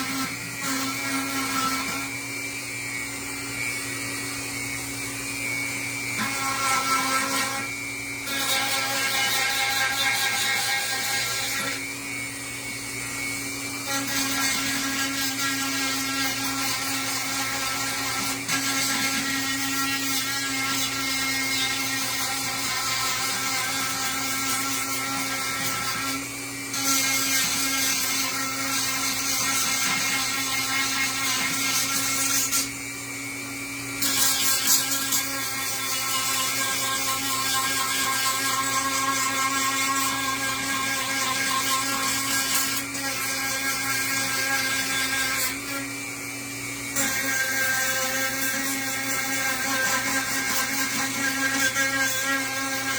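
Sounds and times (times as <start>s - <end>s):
power tool cutting wood: 0.0s - 52.9s.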